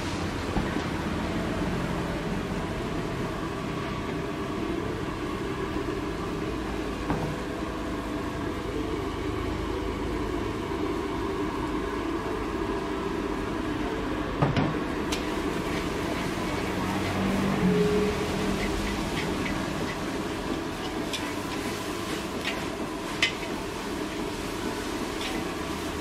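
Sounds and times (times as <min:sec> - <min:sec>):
noodles sizzling in a wok: 0:00.0 - 0:14.1, 0:14.8 - 0:26.0
gas burner roaring: 0:00.0 - 0:26.0.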